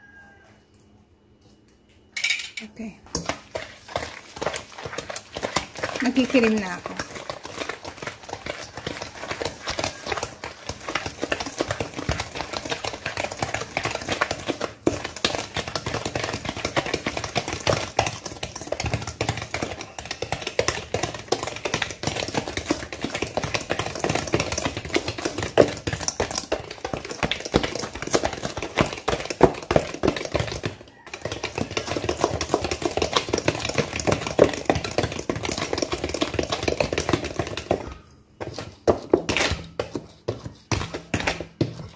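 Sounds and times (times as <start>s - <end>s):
whisk beating in metal bowl: 3.1s - 41.9s.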